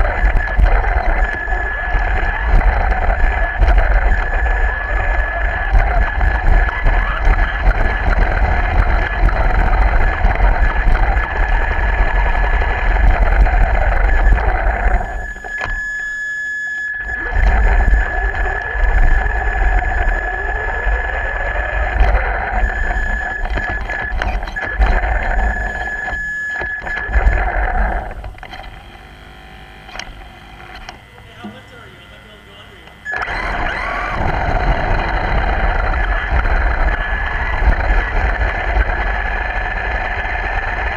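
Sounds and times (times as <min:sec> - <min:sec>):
toy car motor whine: 0:00.0 - 0:40.9.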